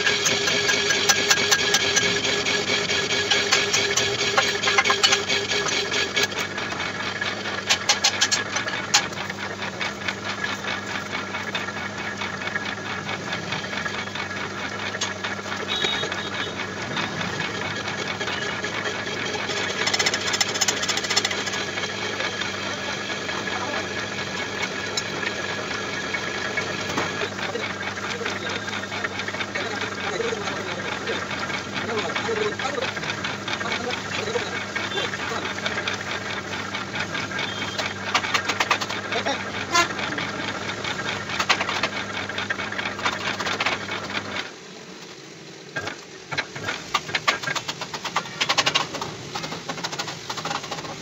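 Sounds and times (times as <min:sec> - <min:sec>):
metal lathe humming: 0:00.0 - 0:51.0
rapid clicking and rattling: 0:00.0 - 0:51.0.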